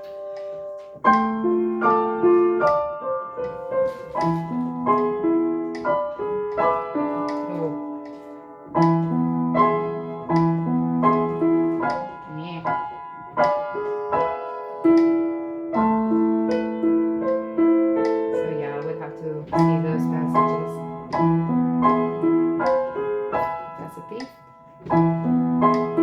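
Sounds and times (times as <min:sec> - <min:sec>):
slow piano playing: 0:00.0 - 0:26.0.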